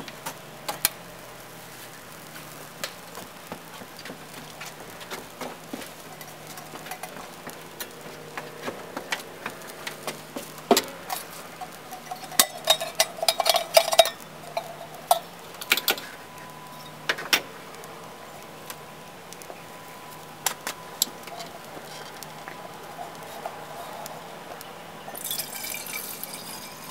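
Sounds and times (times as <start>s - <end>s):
fire crackling and popping: 0.0s - 26.9s
wavering buzz: 0.0s - 26.9s.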